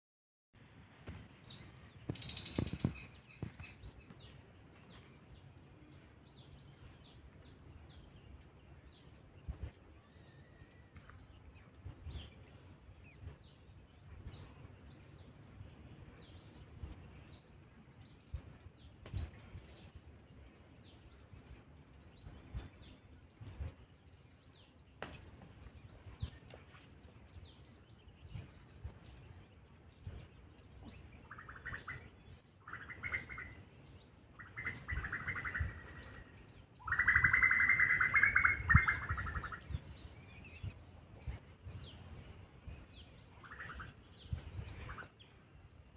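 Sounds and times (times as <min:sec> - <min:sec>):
small birds chirping: 0:01.0 - 0:45.9
low outdoor rumble: 0:02.9 - 0:45.9.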